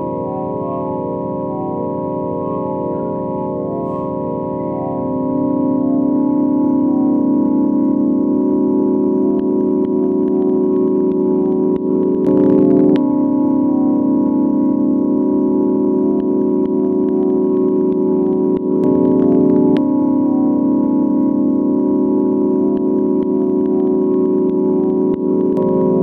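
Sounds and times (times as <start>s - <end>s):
electronic organ-like drone: 0.0s - 26.0s.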